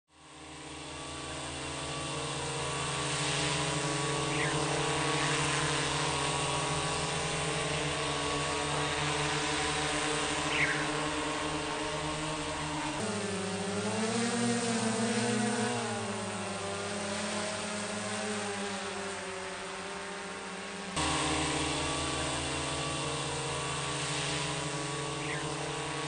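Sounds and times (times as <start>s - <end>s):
drone propellers humming: 0.1s - 26.0s.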